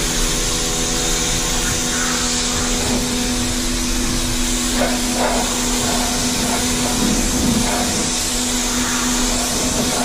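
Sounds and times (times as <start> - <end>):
pressure washer motor humming: 0.0 - 10.0
water jet hissing on car: 0.0 - 10.0.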